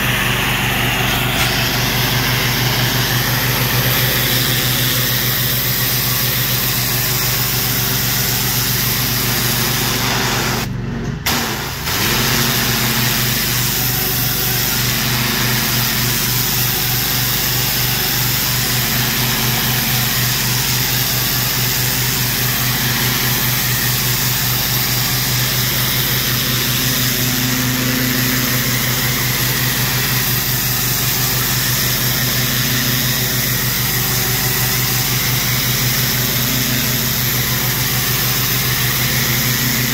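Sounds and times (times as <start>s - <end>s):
high-pressure water spraying: 0.0s - 10.7s, 11.3s - 39.9s
pressure washer engine running: 0.0s - 39.9s.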